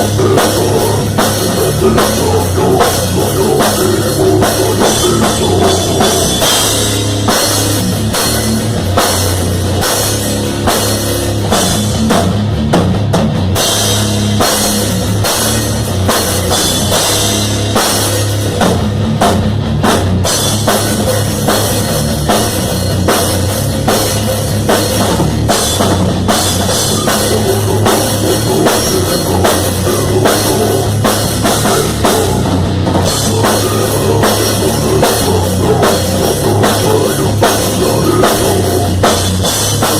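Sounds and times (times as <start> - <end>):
drum kit beat: 0.0 - 39.9
rock music: 0.0 - 39.9.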